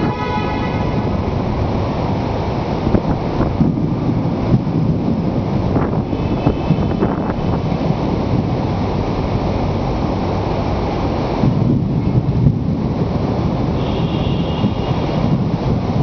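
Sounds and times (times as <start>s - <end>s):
stormy weather rushing: 0.0s - 16.0s
wind buffeting microphone: 0.0s - 16.0s.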